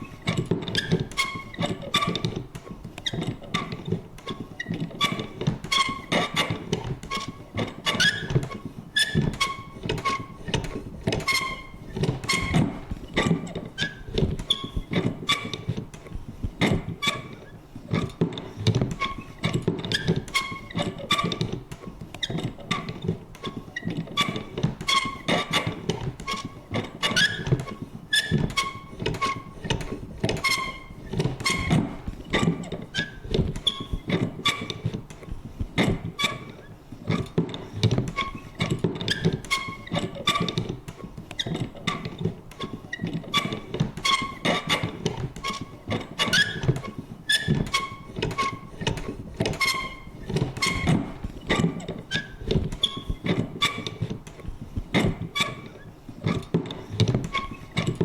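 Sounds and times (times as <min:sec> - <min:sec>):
creaks and squeaks: 0:00.0 - 0:58.0.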